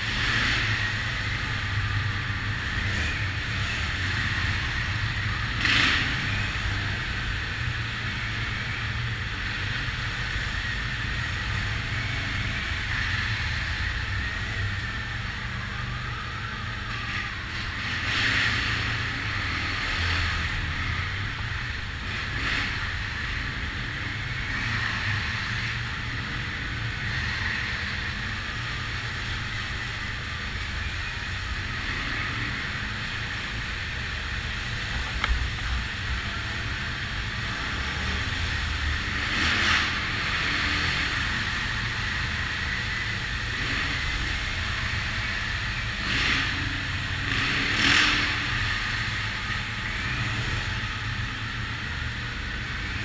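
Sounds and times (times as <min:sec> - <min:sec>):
atv engine droning with whine: 0:00.0 - 0:53.0
tyre and trail noise: 0:00.0 - 0:53.0.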